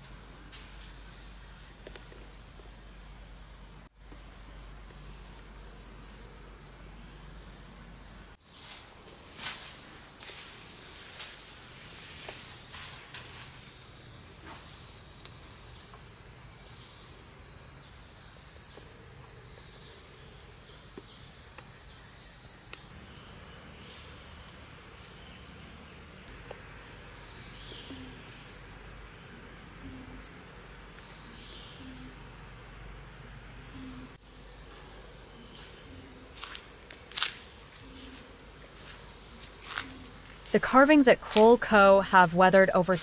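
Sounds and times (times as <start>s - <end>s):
faint high insect calls: 0.0s - 43.0s
insects droning high-pitched: 0.0s - 43.0s.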